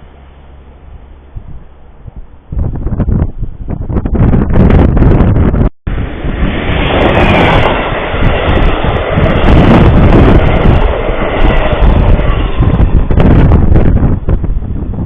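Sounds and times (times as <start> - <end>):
train passing rumble: 0.0 - 15.0
wind buffeting microphone: 0.8 - 15.0.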